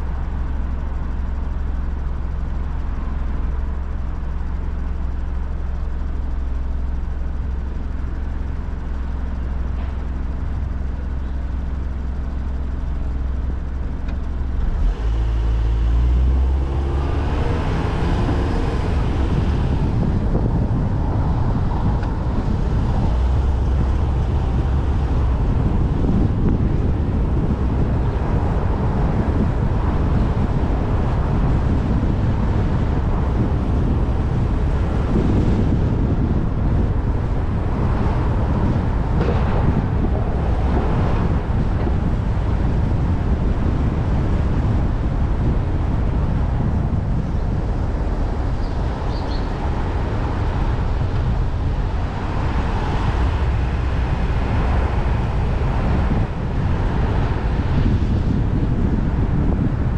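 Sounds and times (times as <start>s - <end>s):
street traffic rumble: 0.0s - 59.9s
vehicles passing: 0.0s - 59.9s
wind buffeting microphone: 0.0s - 59.9s.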